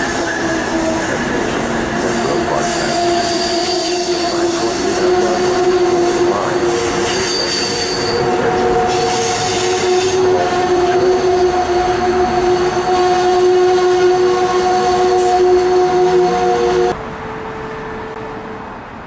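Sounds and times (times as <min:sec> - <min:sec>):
train wheels squealing: 0:00.0 - 0:17.0
train rolling rumble: 0:00.0 - 0:19.0.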